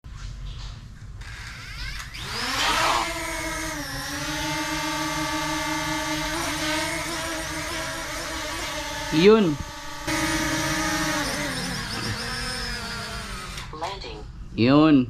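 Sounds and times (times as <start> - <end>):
drone propellers whining: 1.2 - 13.8.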